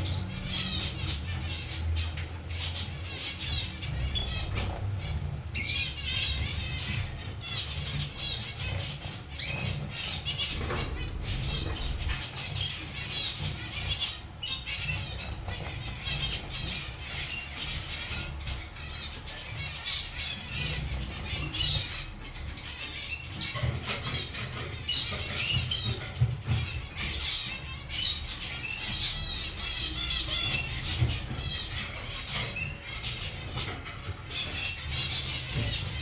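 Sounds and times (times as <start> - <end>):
finches beeping calls: 0.0 - 36.0.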